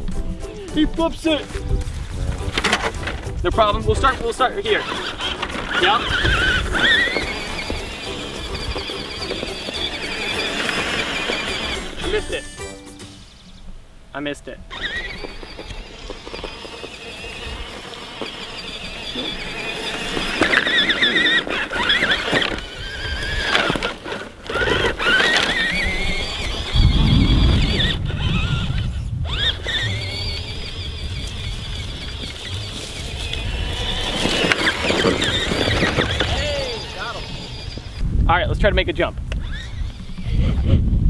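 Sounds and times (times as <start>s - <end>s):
electric motor whining: 1.4s - 12.6s, 14.6s - 38.1s, 39.2s - 40.9s.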